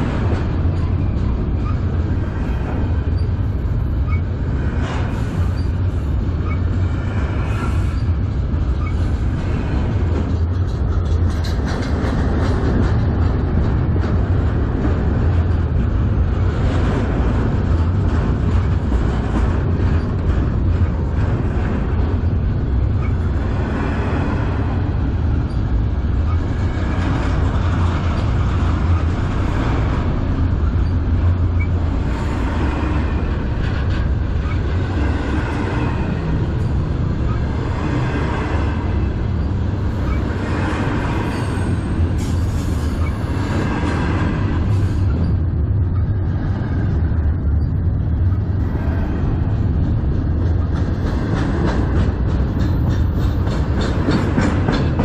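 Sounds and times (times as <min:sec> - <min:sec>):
freight train wheels rumbling: 0:00.0 - 0:55.0
train wheel clatter: 0:00.0 - 0:55.0.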